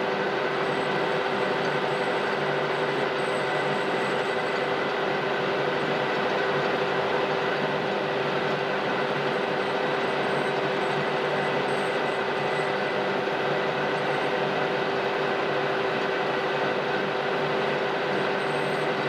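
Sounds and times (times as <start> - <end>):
metal lathe humming and whining: 0.0 - 19.0.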